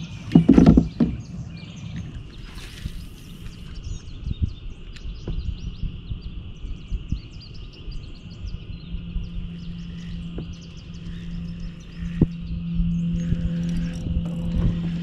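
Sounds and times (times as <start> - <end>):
birds chirping: 0.0 - 15.0
low rumble: 0.0 - 15.0
steady high-pitched drone: 1.2 - 15.0.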